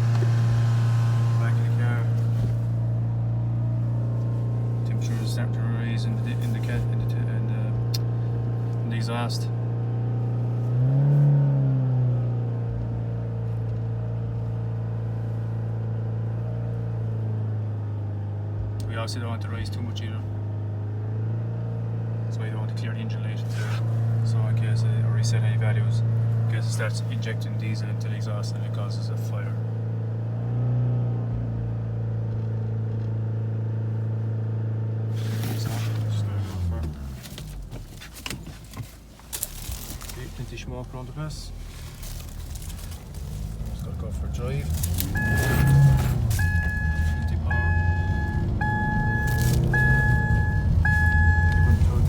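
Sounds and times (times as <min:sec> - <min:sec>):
diesel engine at raised revs: 0:00.0 - 0:52.0.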